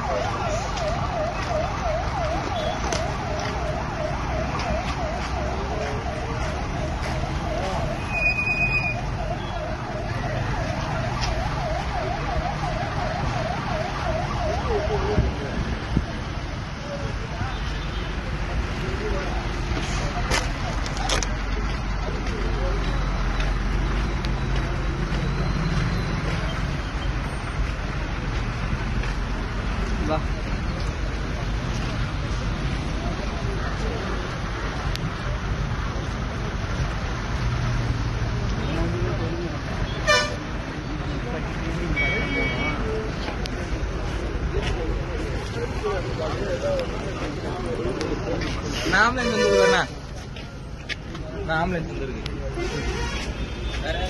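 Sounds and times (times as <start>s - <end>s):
road noise: 0.0s - 54.0s
vehicle engine rumbling: 0.0s - 54.0s.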